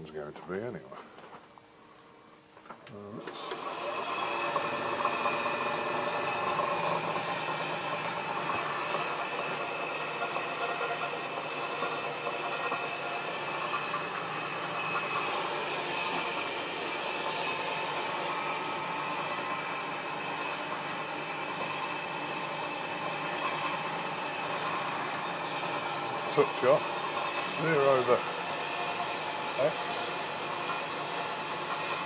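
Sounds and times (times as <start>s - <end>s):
milling machine cutting steel: 3.1s - 32.0s.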